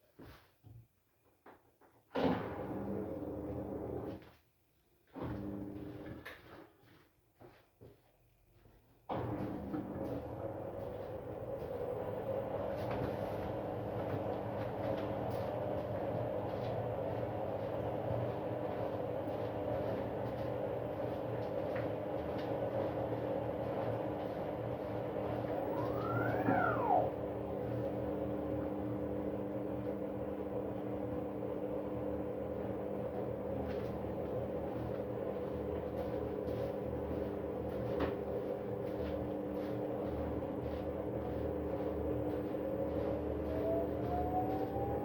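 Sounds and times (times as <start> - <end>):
washing machine hum and rumble: 2.3 - 4.3, 9.1 - 45.0.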